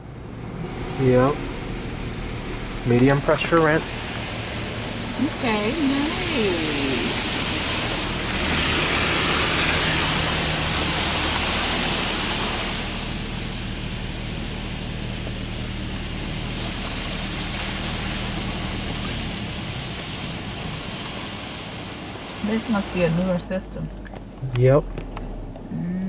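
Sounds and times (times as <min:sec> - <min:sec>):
steady low hum: 0:00.0 - 0:26.0
water spray hissing on car glass: 0:00.6 - 0:23.4.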